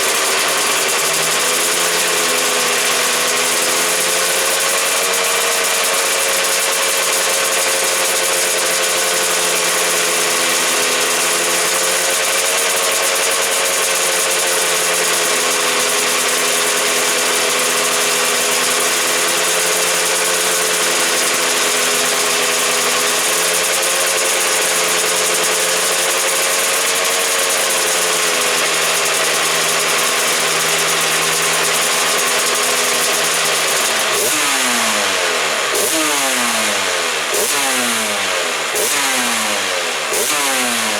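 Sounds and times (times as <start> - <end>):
racing engine idling and revving: 0.0 - 40.9.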